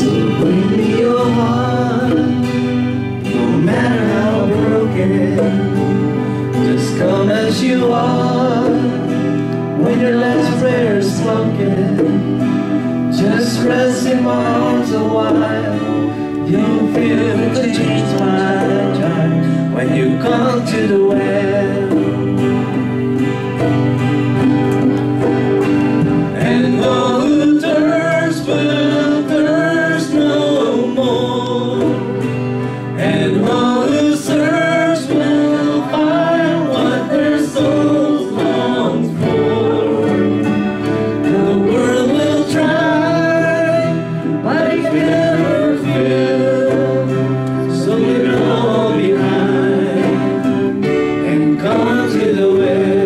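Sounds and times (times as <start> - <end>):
man singing into microphone: 0.0 - 22.8, 26.2 - 53.0
acoustic guitar: 0.0 - 53.0
keyboard playing: 0.0 - 53.0.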